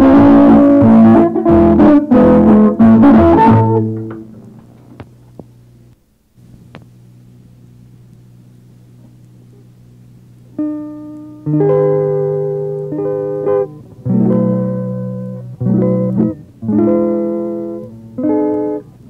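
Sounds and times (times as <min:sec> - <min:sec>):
guitar music on cassette: 0:00.0 - 0:19.0
low tape hum: 0:00.0 - 0:19.0.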